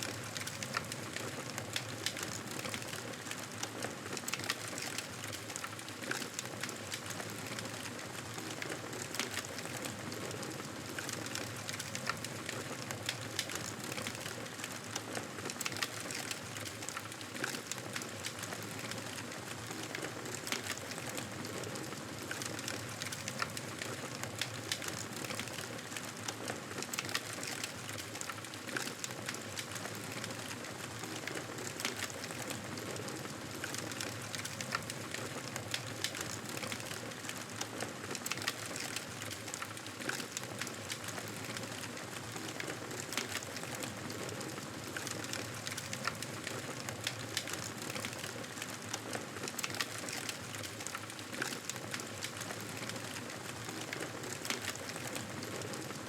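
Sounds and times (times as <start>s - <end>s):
fire popping and snapping: 0.1s - 3.6s, 10.9s - 21.4s, 22.2s - 55.7s.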